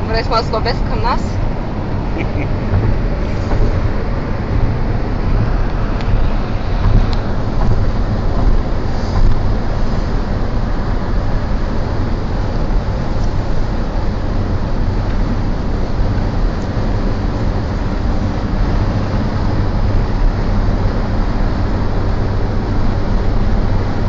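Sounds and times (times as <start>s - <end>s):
road and engine noise in car cabin: 0.0s - 24.0s.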